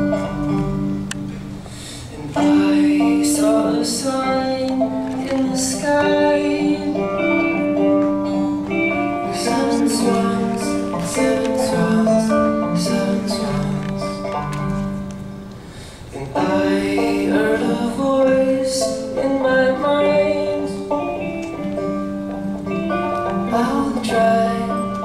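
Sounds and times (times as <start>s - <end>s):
band playing slow folk song: 0.0s - 25.0s
person singing: 2.1s - 14.8s, 16.1s - 25.0s.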